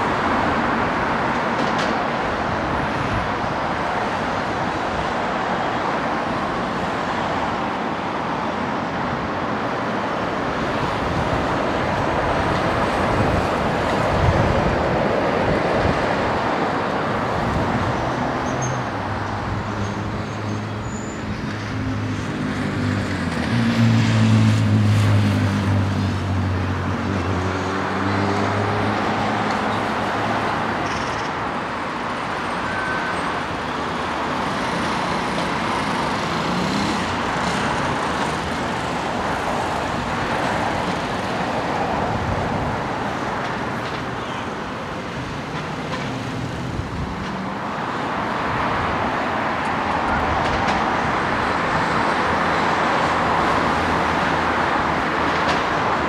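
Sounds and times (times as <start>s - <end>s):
traffic noise: 0.0s - 56.0s.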